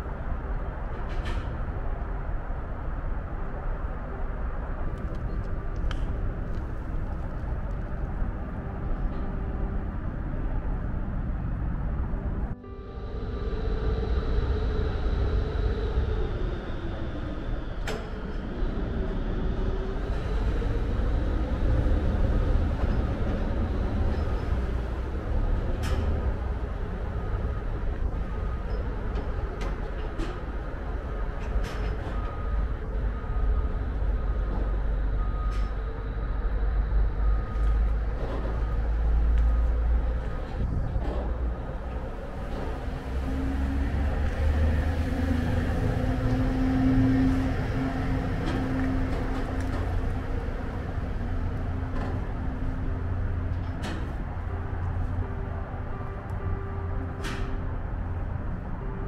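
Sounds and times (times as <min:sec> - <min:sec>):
ferry engines rumbling: 0:00.0 - 0:59.0.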